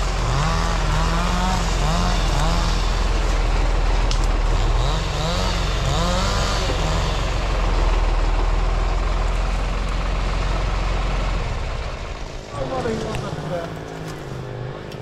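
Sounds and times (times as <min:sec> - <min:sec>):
tractor diesel engine humming: 0:00.0 - 0:15.0.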